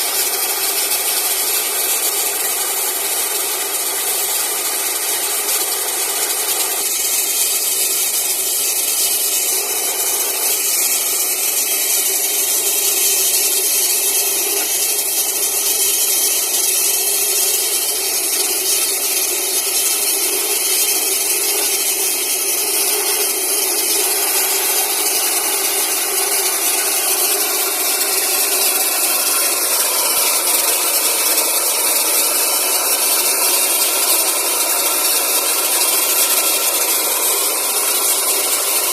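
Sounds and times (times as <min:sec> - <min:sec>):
air compressor running: 0:00.0 - 0:38.9
hiss of rushing air: 0:04.8 - 0:38.9.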